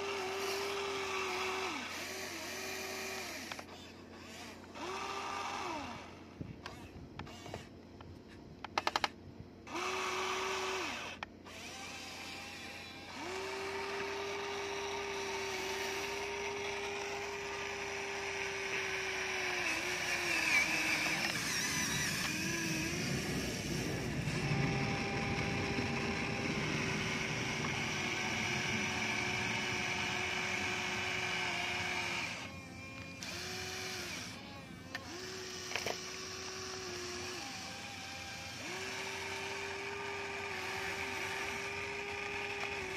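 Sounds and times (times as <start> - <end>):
toy excavator motors whining: 0.0 - 42.9.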